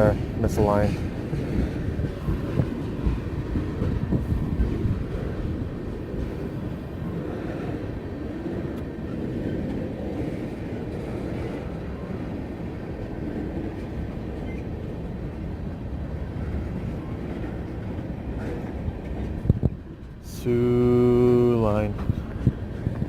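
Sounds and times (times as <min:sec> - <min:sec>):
freight train rumbling on rails: 0:00.0 - 0:23.0.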